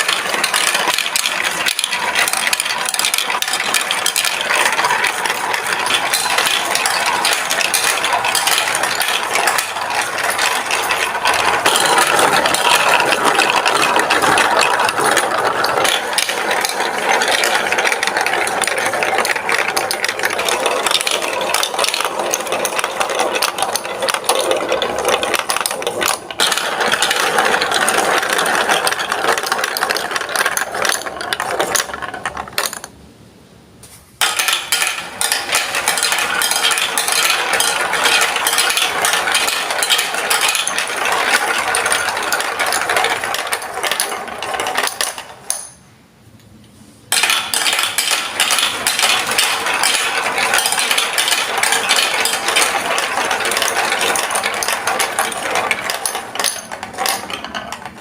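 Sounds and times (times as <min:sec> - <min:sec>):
marbles clattering down plastic track: 0:00.0 - 0:33.0, 0:34.2 - 0:45.8, 0:47.1 - 0:58.0.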